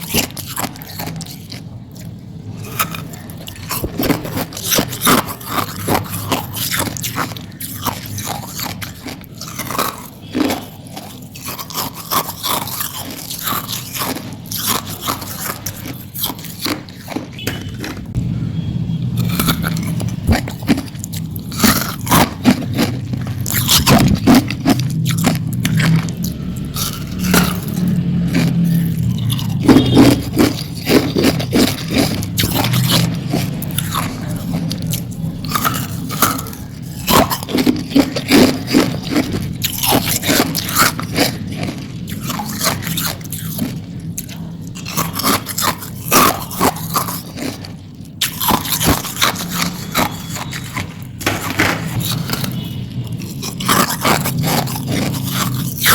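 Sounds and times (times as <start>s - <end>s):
ice crunching in mouth: 0.0s - 18.2s, 19.1s - 55.9s.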